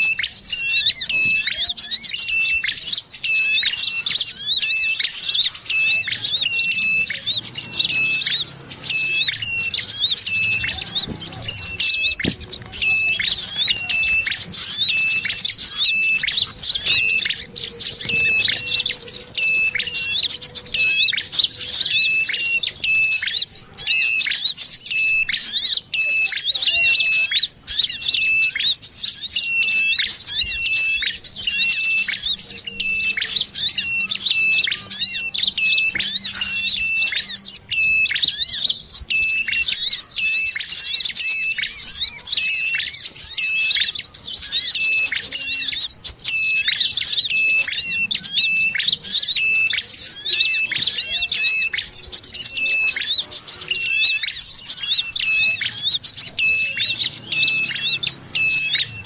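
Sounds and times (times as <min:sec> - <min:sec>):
small birds chirping and chattering: 0:00.0 - 0:59.0.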